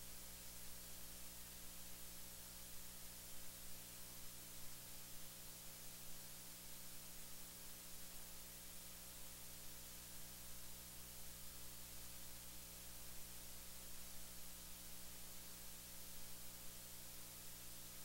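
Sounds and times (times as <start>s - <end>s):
faint steady hiss: 0.0s - 18.0s
low electrical hum: 0.0s - 18.0s.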